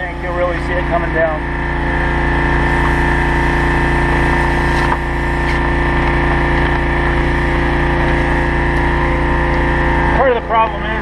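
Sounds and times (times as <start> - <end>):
gas engine running: 0.0 - 11.0.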